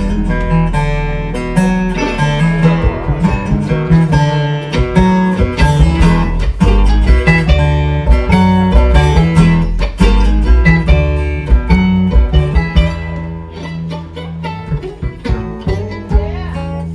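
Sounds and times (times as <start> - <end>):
acoustic guitar picking: 0.0 - 16.9
mandolin picking: 0.0 - 16.9
upright bass line: 0.0 - 16.9.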